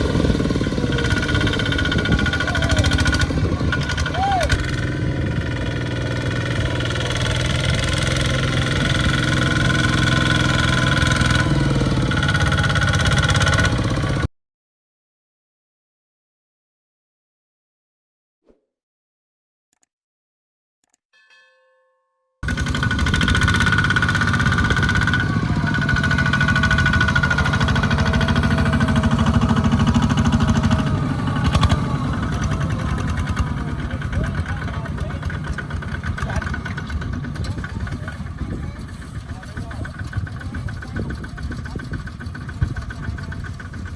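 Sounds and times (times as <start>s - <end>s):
tractor engine running: 0.0s - 14.3s, 22.4s - 43.9s.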